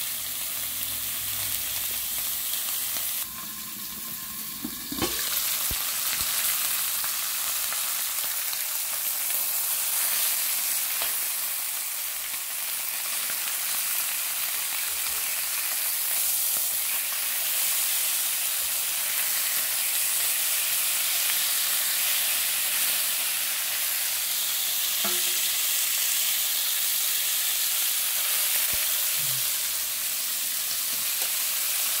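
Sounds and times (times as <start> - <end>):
meat sizzling on a grill plate: 0.0 - 32.0.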